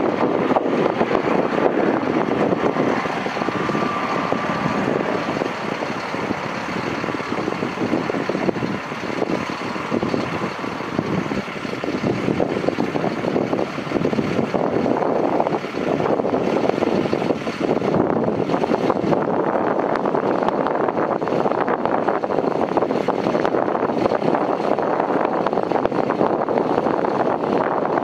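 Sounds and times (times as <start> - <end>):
helicopter rotors and engines: 0.0 - 28.0.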